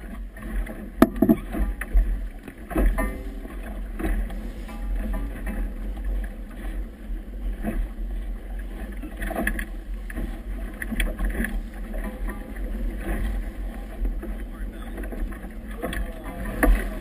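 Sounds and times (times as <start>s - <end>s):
water slapping against hull: 0.0s - 17.0s.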